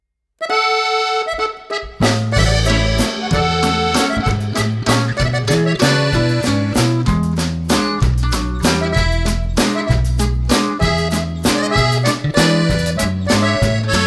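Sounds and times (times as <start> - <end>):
bouncy music with bass and drums: 0.5 - 14.0.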